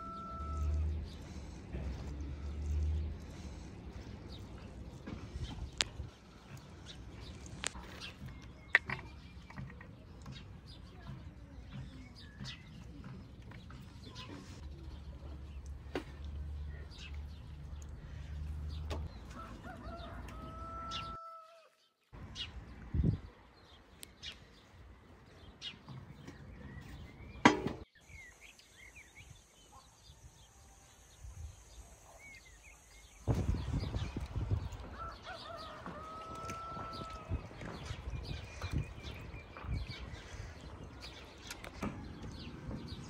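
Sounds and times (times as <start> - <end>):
small birds chirping: 0.0 - 21.3, 22.2 - 43.0.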